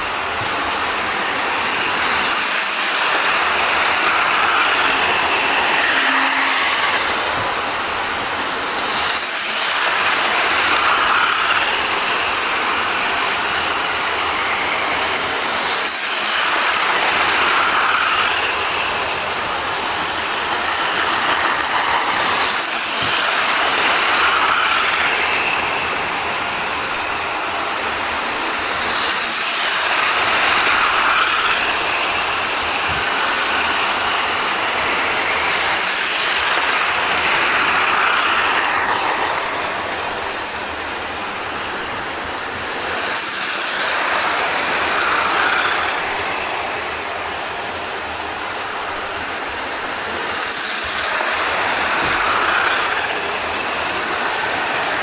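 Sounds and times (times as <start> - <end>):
model trains whirring on track: 0.0 - 55.0.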